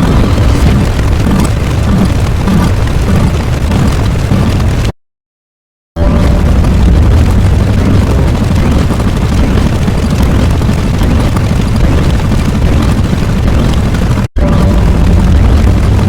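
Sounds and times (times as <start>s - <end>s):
rumbling explosion roar: 0.0s - 4.9s, 6.0s - 16.0s.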